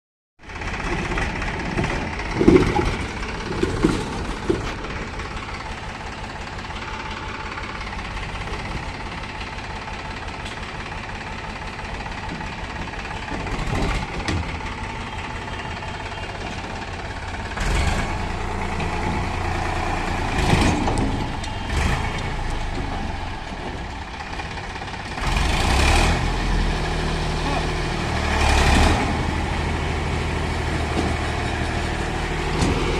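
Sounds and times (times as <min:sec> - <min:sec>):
tractor engine running: 0:00.4 - 0:32.9.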